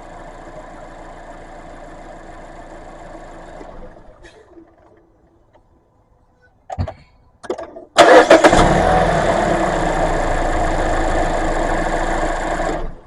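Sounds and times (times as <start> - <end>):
car engine cranking and idling: 0.0 - 6.2, 7.8 - 13.0.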